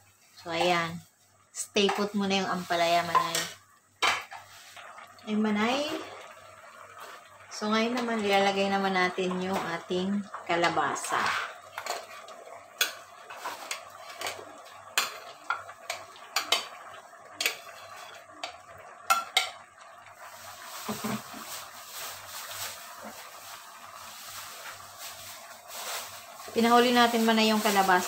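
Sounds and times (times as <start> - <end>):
broth simmering hiss: 0.0 - 28.0.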